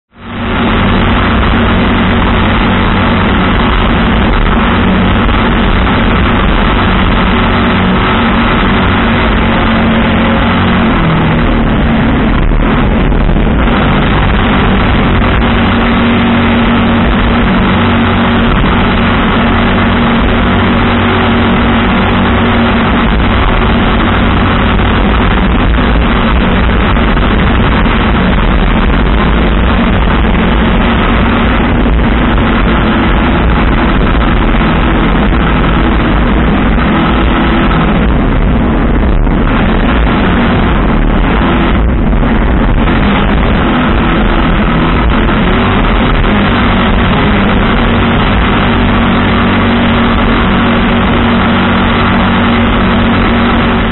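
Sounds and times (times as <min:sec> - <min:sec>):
boat engine running hard: 0:00.0 - 0:53.9
wind noise: 0:00.1 - 0:53.9
rushing water: 0:00.2 - 0:53.9.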